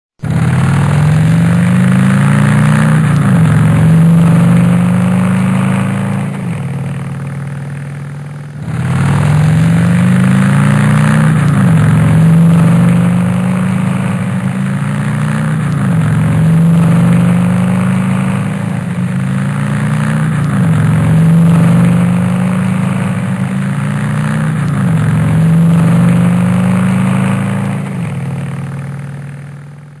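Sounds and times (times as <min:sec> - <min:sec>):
car engine accelerating: 0:00.2 - 0:30.0.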